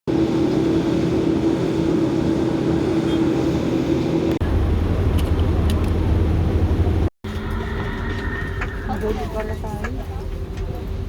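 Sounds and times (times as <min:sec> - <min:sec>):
turboprop engine drone in cabin: 0:00.1 - 0:11.0.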